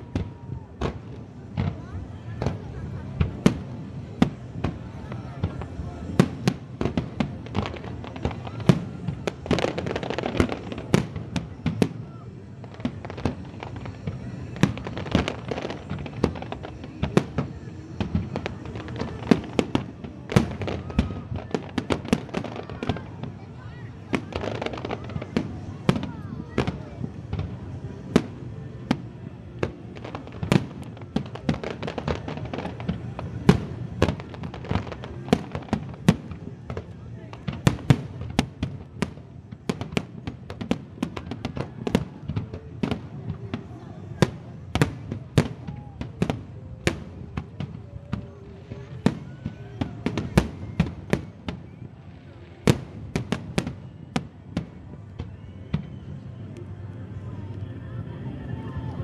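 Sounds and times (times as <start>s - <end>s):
continuous low rumble: 0.0s - 59.0s
fireworks bangs and crackles: 0.0s - 59.0s.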